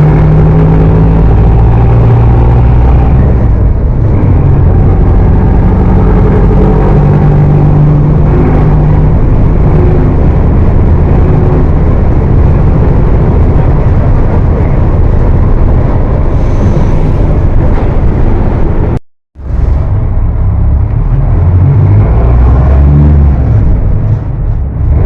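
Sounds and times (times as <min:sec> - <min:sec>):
diesel bus engine rumbling: 0:00.0 - 0:25.0.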